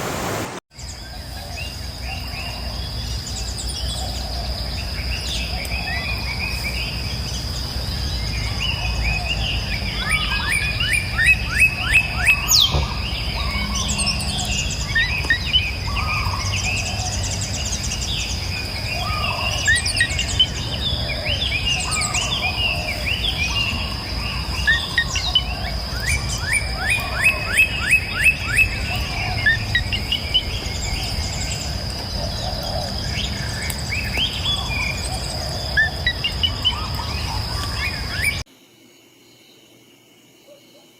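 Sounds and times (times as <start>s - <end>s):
birds calling and chirping: 0.0s - 38.5s
high insect drone: 0.8s - 40.9s.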